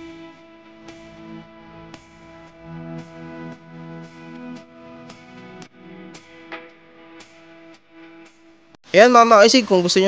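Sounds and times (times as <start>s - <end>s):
plucked guitar music: 0.0s - 8.6s.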